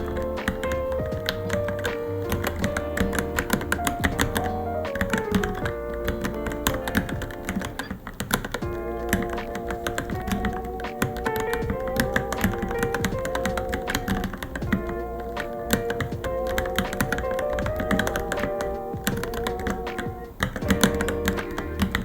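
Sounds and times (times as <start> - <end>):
background music: 0.0 - 22.0
mechanical keyboard typing: 0.0 - 22.0.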